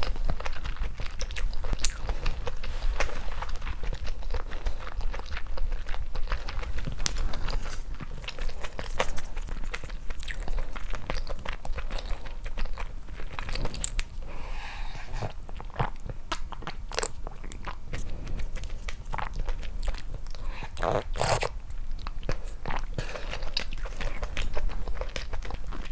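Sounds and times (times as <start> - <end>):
chewing and biting food: 0.0 - 25.9.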